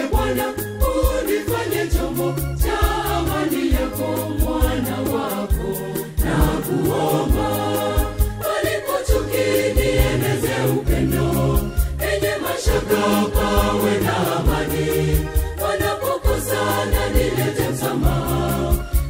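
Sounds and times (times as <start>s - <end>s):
backing with bass and beat: 0.0s - 19.0s
mixed choir singing gospel: 0.0s - 19.0s.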